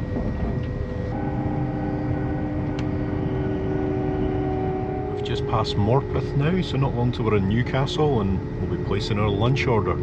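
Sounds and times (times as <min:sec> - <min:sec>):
multi-tone hum: 0:00.0 - 0:10.0
train rumble inside carriage: 0:00.0 - 0:10.0.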